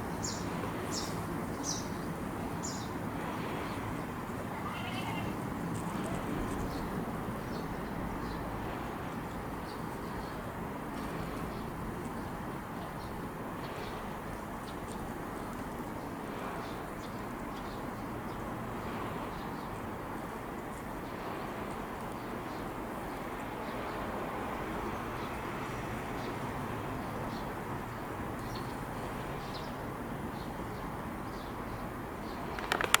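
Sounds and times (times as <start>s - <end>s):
distant traffic rumble: 0.0s - 33.0s.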